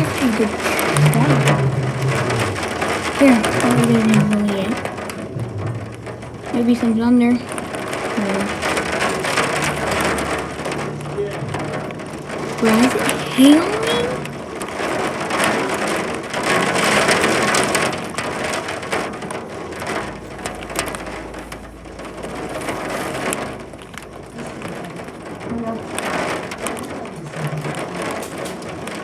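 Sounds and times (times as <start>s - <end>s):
hail rattling: 0.0s - 29.0s
rain: 0.0s - 29.0s.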